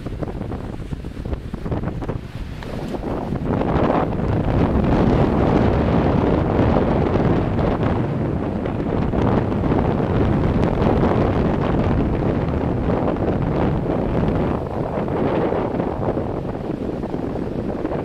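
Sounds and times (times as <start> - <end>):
strong wind on microphone: 0.0 - 18.0
waves breaking on shore: 0.0 - 18.0.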